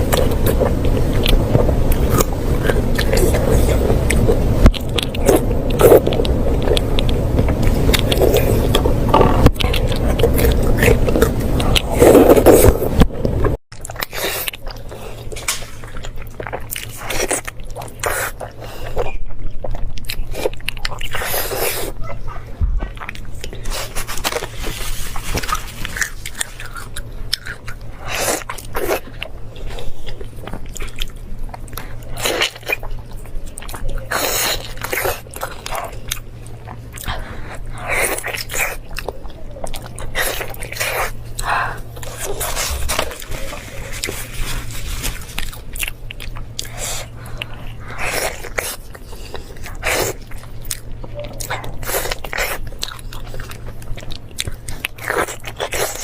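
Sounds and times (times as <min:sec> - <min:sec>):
person chewing meat: 0:00.0 - 0:56.0
steady low hum: 0:00.0 - 0:56.0.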